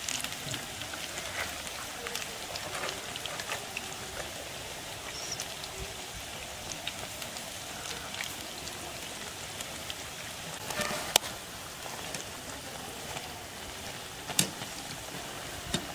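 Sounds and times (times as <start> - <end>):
deep-frying sizzle in oil: 0.0 - 15.9.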